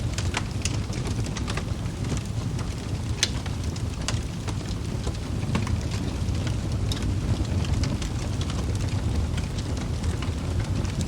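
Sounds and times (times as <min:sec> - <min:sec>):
low rumble of burning logs: 0:00.0 - 0:11.0
wood fire crackling: 0:00.0 - 0:11.0.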